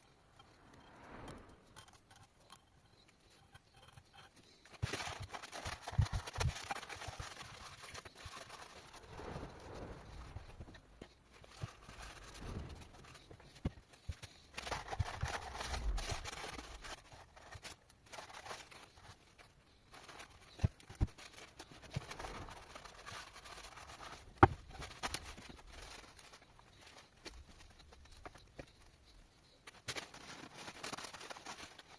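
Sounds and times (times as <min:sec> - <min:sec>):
rubbing or scraping: 0:00.0 - 0:28.6.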